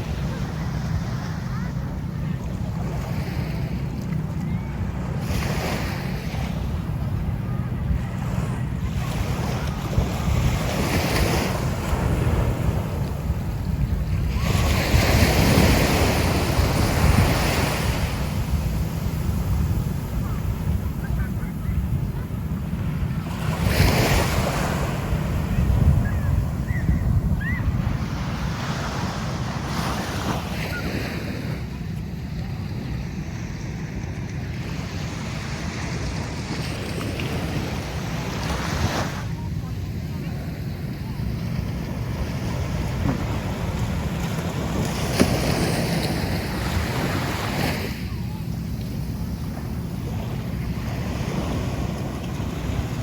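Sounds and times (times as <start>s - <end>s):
sea waves washing onto beach: 0.0s - 53.0s
wind rumbling on microphone: 0.0s - 53.0s.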